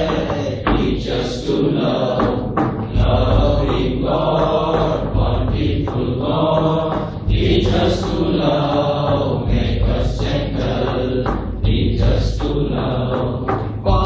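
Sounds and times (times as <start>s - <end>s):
men singing in unison: 0.0s - 14.0s.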